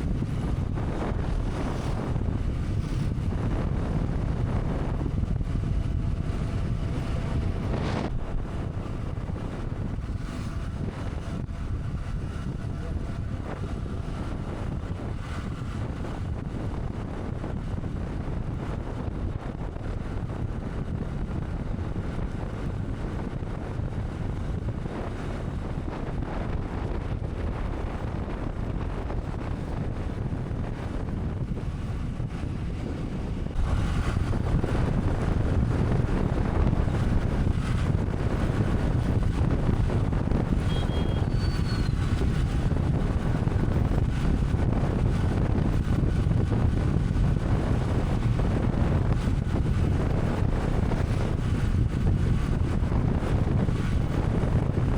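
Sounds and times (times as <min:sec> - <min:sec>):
motorcycle riding rumble: 0:00.0 - 0:54.9
wind rushing over microphone: 0:00.0 - 0:54.9.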